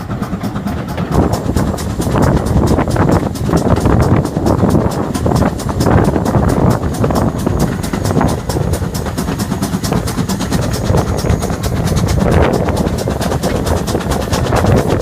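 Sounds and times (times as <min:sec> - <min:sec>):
steam train running: 0:00.0 - 0:15.0.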